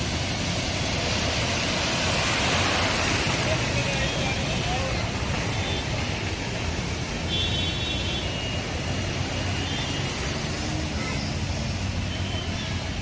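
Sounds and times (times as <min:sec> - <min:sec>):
vehicles driving through floodwater: 0:00.0 - 0:13.0.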